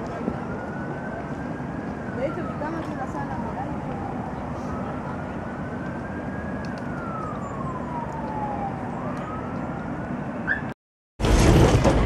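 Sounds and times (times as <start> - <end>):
emergency vehicle siren wailing: 0.0 - 10.8
low rumble of city noise: 0.0 - 12.0.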